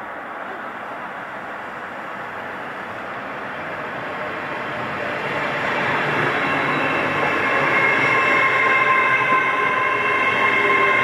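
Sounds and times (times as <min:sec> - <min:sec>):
train approaching: 0:00.0 - 0:11.0.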